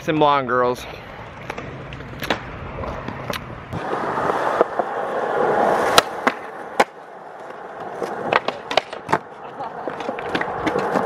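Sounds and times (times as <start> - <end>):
skateboard wheels grinding on concrete: 0.1 - 11.0
skateboard clacks: 1.4 - 11.0.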